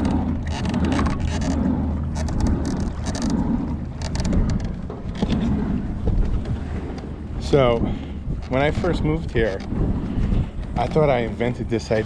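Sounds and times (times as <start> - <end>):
paddle strokes splashing water: 0.0 - 10.6
wind rumble on microphone: 0.0 - 12.0.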